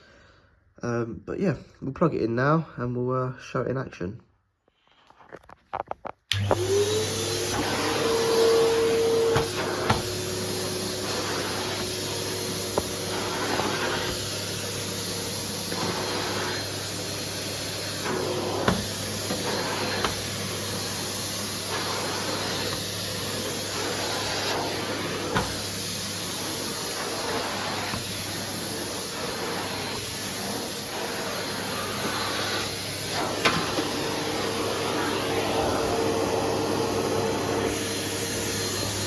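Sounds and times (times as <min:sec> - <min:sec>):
vacuum cleaner running: 0:06.3 - 0:39.0.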